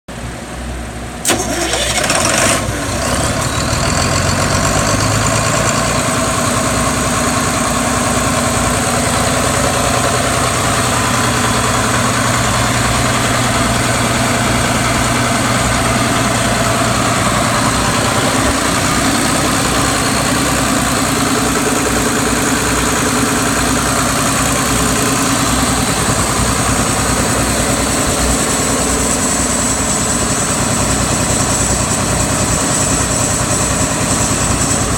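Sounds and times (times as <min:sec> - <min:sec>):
diesel generator starting and running: 0:00.1 - 0:34.9.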